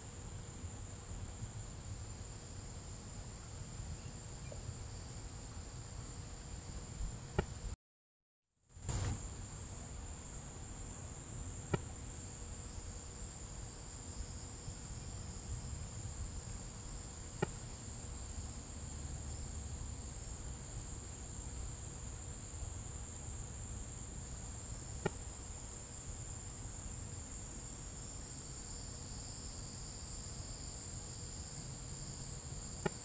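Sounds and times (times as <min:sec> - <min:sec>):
crickets chirping: 0:00.0 - 0:07.8, 0:08.8 - 0:33.0.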